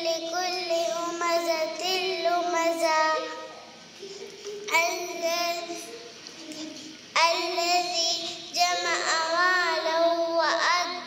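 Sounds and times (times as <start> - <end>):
girl singing a melodic chant: 0.0 - 3.6, 4.7 - 11.0.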